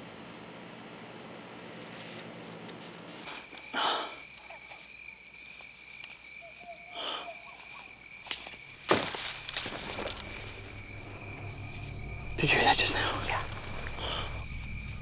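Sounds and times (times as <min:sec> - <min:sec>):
fast insect chirping: 0:00.0 - 0:15.0
insects trilling: 0:00.0 - 0:15.0.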